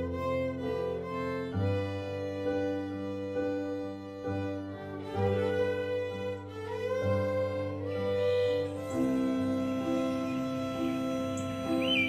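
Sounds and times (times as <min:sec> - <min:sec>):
violin melody: 0:00.0 - 0:12.0.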